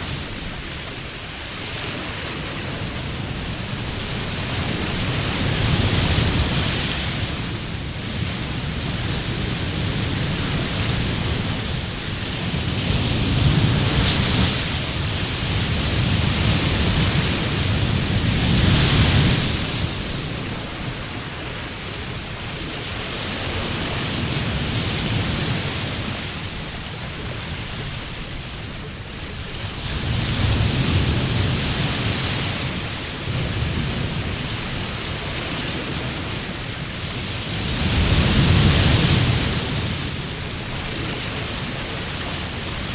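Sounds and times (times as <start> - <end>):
sea waves breaking on beach: 0.0 - 42.9.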